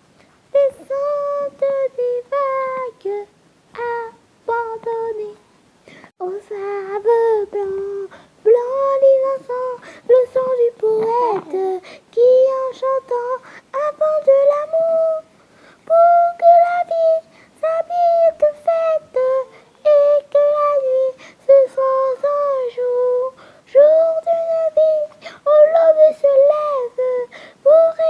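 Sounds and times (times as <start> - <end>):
girl singing: 0.5 - 28.0.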